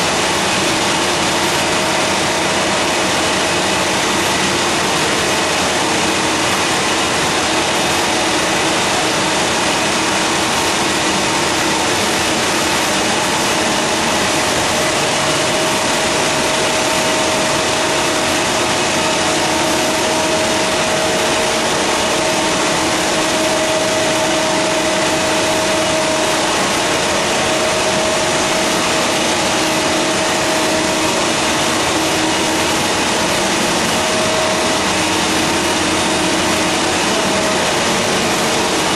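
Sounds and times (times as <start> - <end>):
paper machine running: 0.0 - 38.9.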